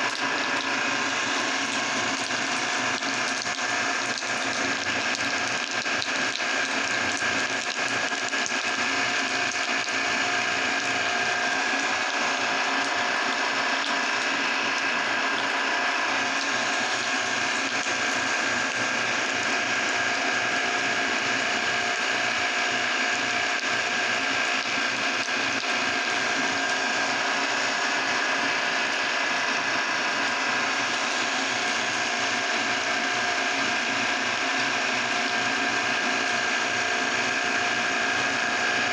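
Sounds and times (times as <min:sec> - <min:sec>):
electric meat grinder whirring: 0:00.0 - 0:38.9.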